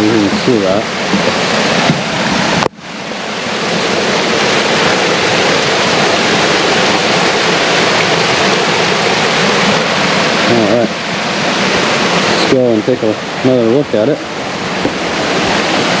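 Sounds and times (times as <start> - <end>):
waterfall water rushing: 0.0 - 16.0.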